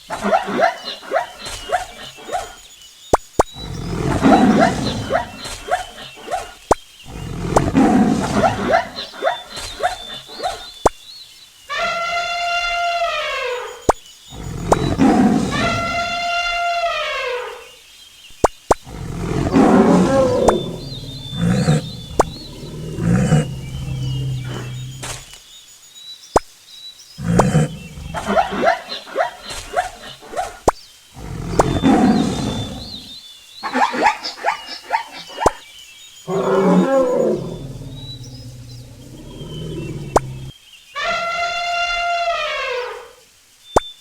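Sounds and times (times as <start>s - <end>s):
wild animal calls: 0.0s - 2.6s, 3.5s - 10.8s, 11.7s - 17.8s, 18.8s - 25.3s, 27.2s - 35.6s, 36.3s - 43.2s.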